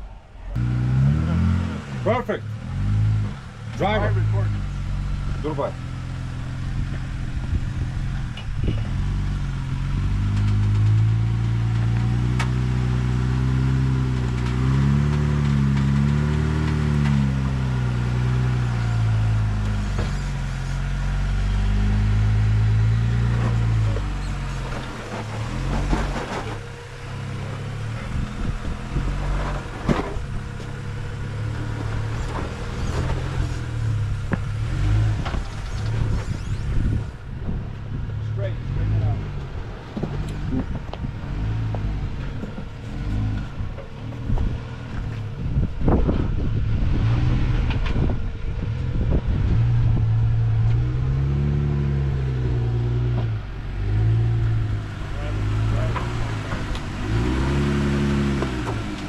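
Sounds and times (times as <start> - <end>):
engine working under load: 0.0 - 59.0.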